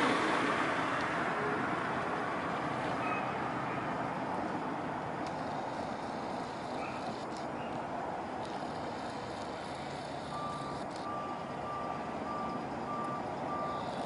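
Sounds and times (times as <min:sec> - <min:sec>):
road traffic rumble and hiss: 0:00.0 - 0:14.0.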